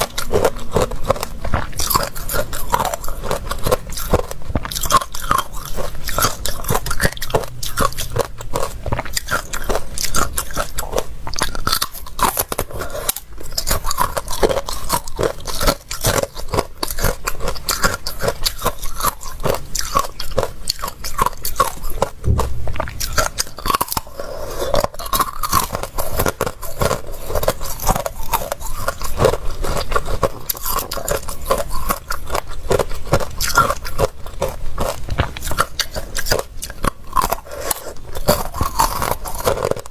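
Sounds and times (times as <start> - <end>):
crunching ice cubes: 0.0 - 39.9.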